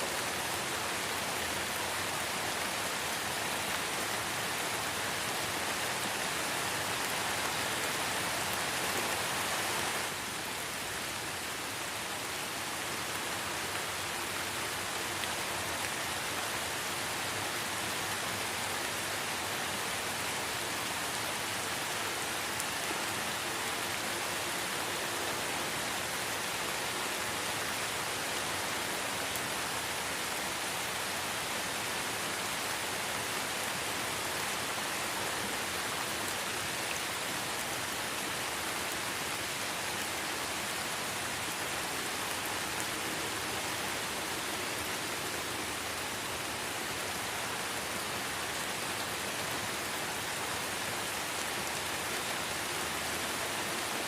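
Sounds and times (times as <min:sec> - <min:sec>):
light rain falling in forest: 0:00.0 - 0:54.0.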